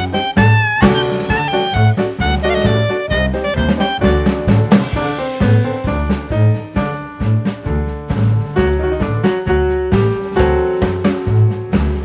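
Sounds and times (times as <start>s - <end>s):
upbeat swing jazz music: 0.0s - 12.0s.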